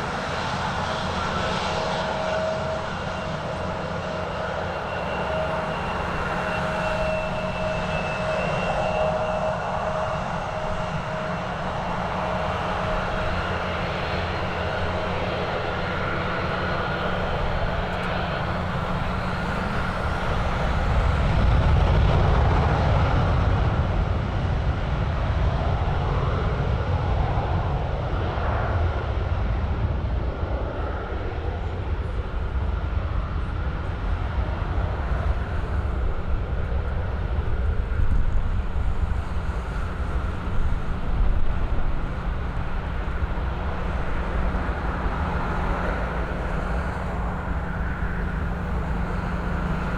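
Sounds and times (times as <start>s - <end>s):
faint wavering whine: 0.0s - 23.9s, 30.3s - 49.9s
aircraft engine rumble: 0.0s - 49.9s.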